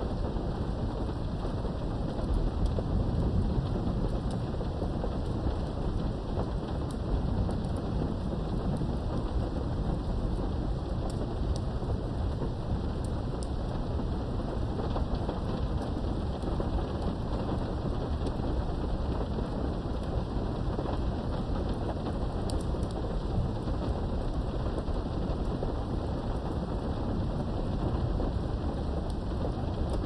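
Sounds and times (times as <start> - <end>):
heavy rain: 0.0 - 30.0
low thunder rumble: 0.0 - 30.0
raindrop ticks: 0.1 - 30.0.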